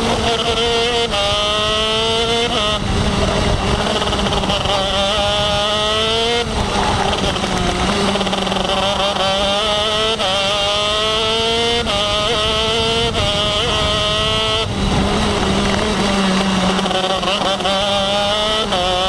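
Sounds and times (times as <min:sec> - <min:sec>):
kart engine revving: 0:00.0 - 0:19.0
wind noise: 0:00.0 - 0:19.0.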